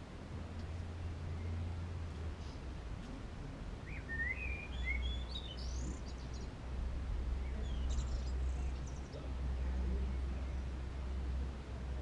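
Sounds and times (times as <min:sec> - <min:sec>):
songbird singing: 0:00.0 - 0:12.0
steady low hum: 0:00.0 - 0:12.0.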